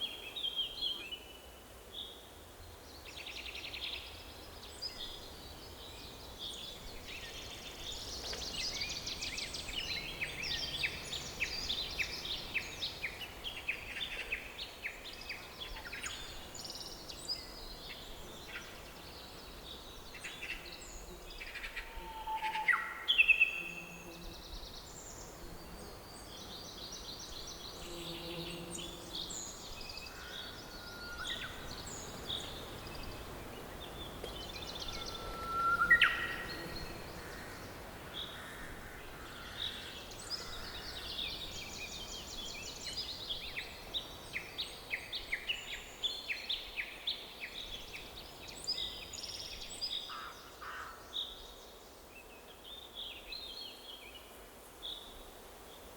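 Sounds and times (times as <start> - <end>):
faint background hiss: 0.0 - 55.9
songbirds singing and calling: 0.0 - 55.9.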